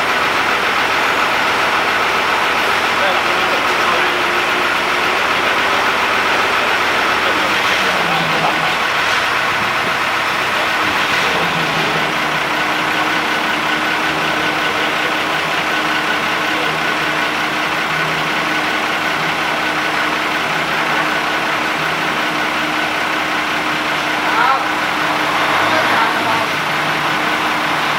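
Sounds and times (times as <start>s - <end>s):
engine idling: 0.0s - 27.9s.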